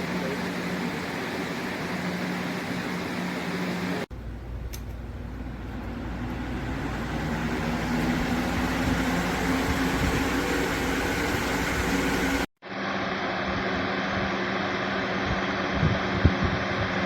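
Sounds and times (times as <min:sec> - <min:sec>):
box fan running: 0:00.0 - 0:17.0.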